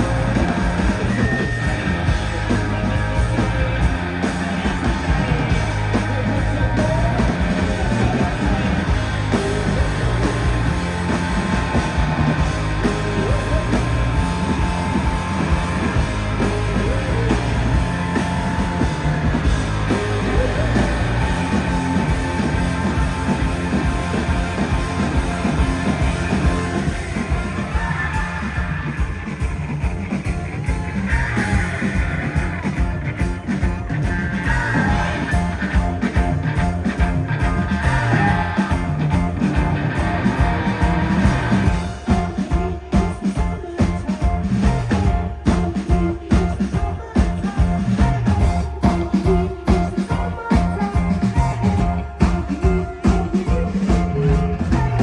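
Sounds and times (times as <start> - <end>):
rock band playing: 0.0 - 55.0
yelled vocals: 0.0 - 55.0.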